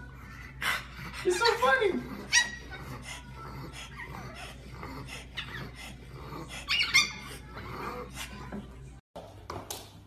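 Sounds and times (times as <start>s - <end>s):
dogs yipping and whining: 0.0s - 8.9s.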